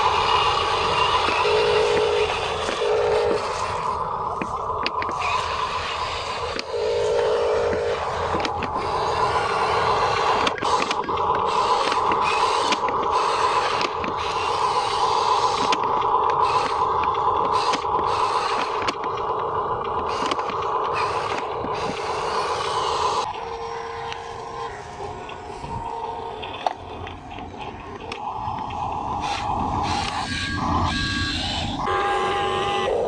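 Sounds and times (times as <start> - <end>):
electric motors whirring: 0.0 - 33.0.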